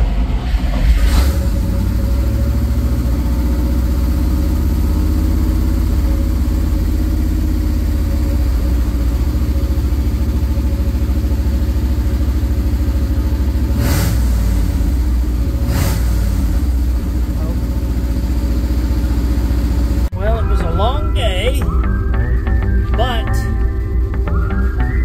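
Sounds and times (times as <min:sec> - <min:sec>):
truck engine high idle: 0:00.0 - 0:25.0.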